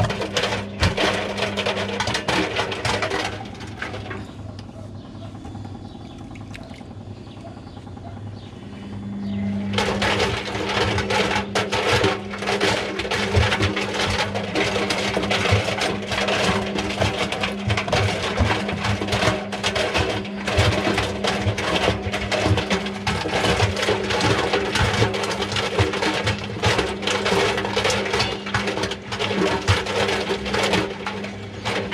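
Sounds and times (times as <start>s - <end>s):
balloons clattering in steel drum: 0.0s - 4.3s, 9.7s - 31.9s
washing machine motor hum: 0.0s - 31.9s.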